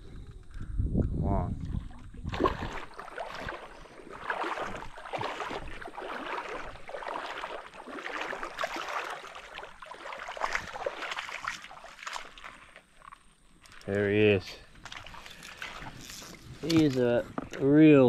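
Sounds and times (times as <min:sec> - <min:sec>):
creek water splashing: 0:01.4 - 0:17.2.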